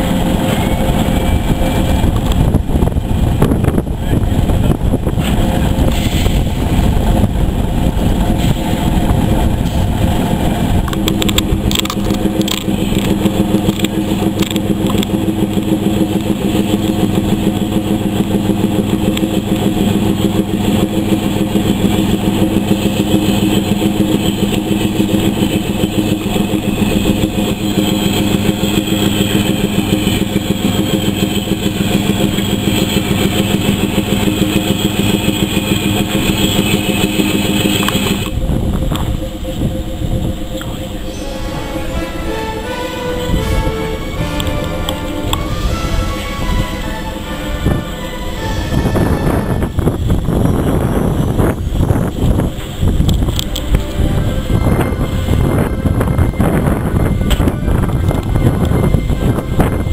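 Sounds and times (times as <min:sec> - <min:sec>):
engine running with throb: 0:00.0 - 0:59.9.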